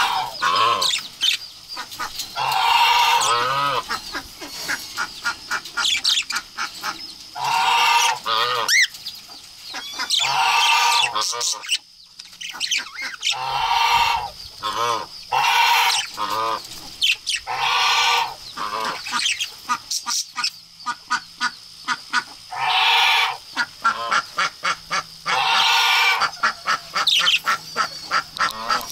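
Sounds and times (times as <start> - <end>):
budgerigars chattering: 0.0 - 28.9
harsh drawn-out bird calls: 0.0 - 28.9.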